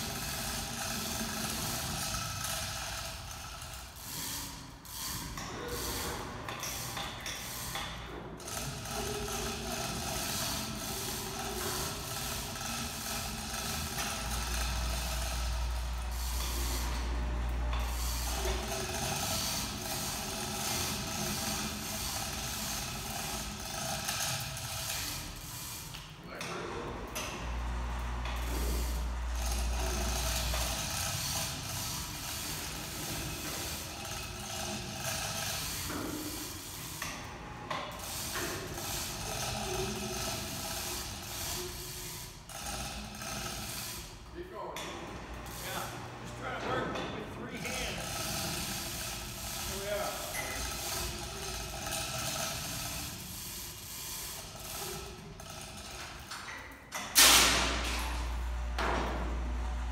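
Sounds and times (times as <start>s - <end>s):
chain hoist hum: 0.0s - 59.2s.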